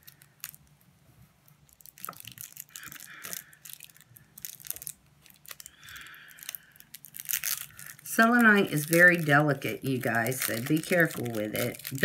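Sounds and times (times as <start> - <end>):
bag crinkling and rustling: 0.0 - 0.8, 1.4 - 12.0.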